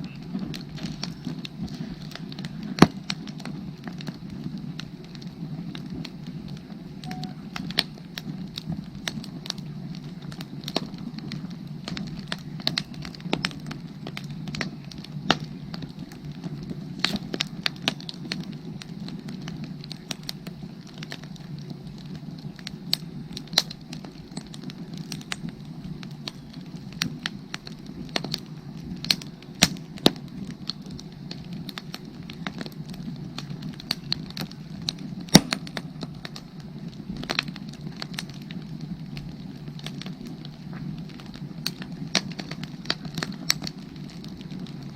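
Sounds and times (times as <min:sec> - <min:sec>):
firewood crackling and popping: 0:00.0 - 0:44.9.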